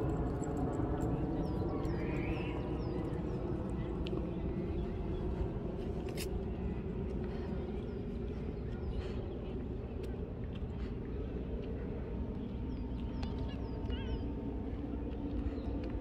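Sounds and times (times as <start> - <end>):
low rumble and murmur: 0.0 - 16.0.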